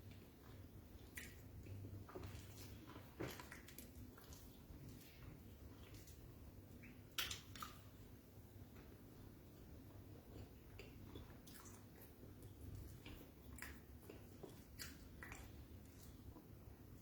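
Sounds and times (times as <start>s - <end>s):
faint chewing: 0.0s - 8.0s, 8.6s - 17.0s.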